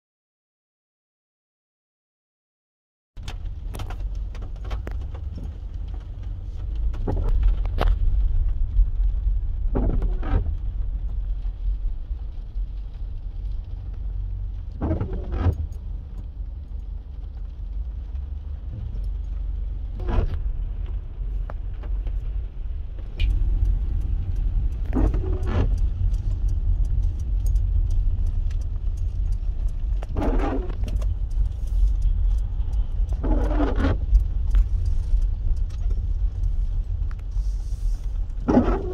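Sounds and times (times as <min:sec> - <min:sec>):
car engine and tyre rumble: 0:03.2 - 0:38.9
windscreen wipers swishing: 0:03.2 - 0:38.9.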